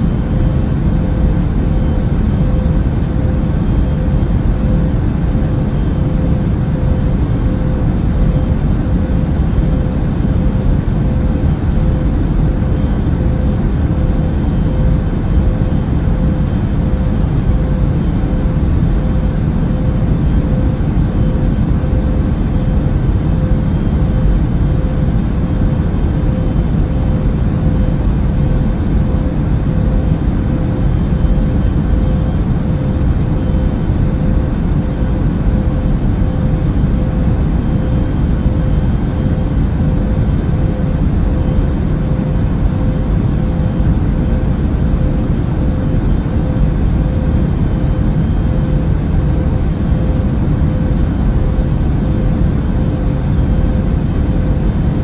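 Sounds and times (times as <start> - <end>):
airplane engine rumble: 0.0 - 55.0.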